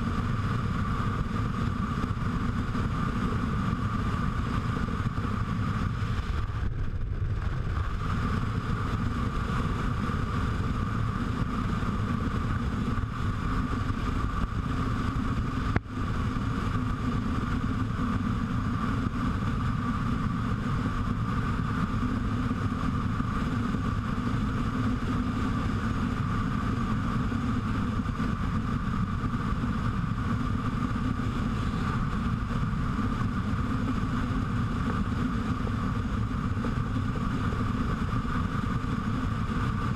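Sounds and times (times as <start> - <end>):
motorcycle cruising: 0.0 - 39.9
rush of wind: 0.0 - 39.9.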